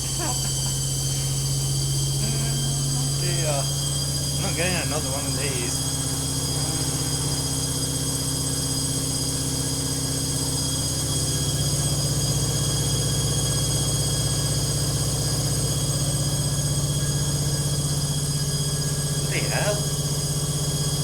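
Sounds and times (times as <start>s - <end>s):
washing machine motor whining: 0.0s - 21.0s.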